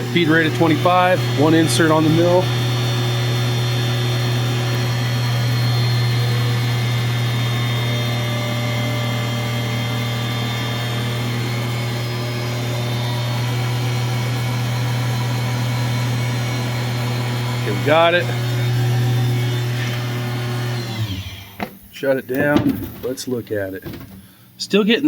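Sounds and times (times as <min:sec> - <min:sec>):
milling machine hum: 0:00.0 - 0:23.1.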